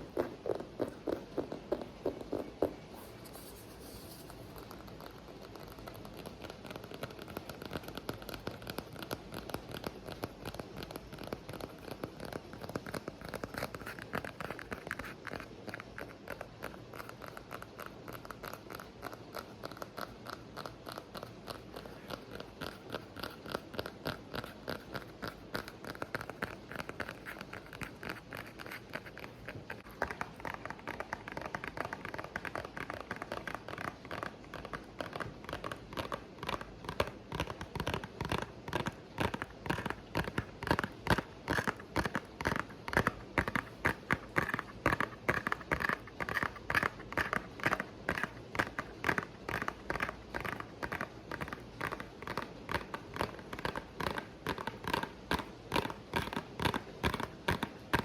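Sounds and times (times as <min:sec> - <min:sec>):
rapid light tapping: 0:04.1 - 0:58.0.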